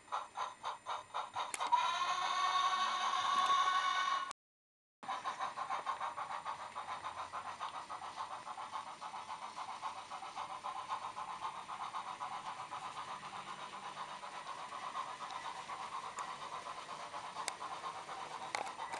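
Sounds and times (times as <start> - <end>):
model steam locomotive chuffing: 0.0 - 4.3, 5.0 - 18.9.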